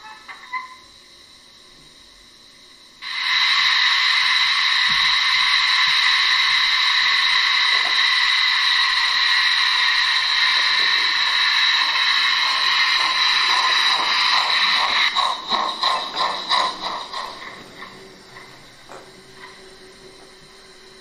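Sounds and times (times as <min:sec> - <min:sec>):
model steam locomotive hiss: 0:00.0 - 0:21.0.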